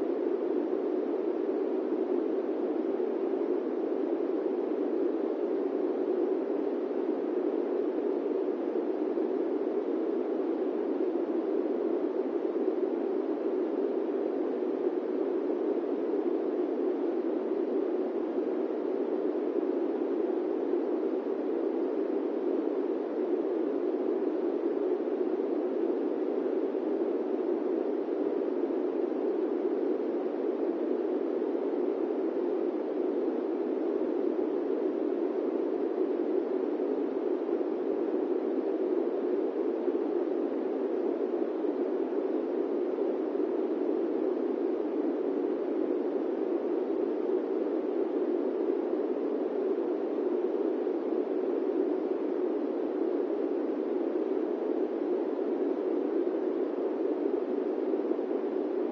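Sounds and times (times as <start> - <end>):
airplane cabin white noise: 0.0 - 58.9.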